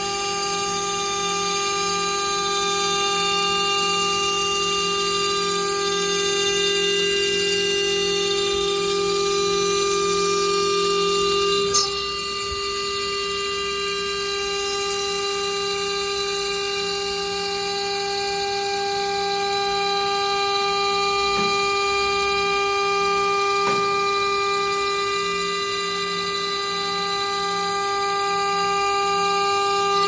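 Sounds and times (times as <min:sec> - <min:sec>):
machine whine: 0:00.0 - 0:30.0.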